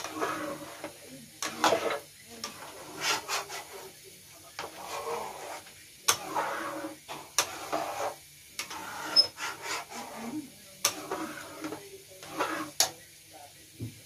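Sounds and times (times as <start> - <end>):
spoon stirring thick stew: 0.0 - 13.0.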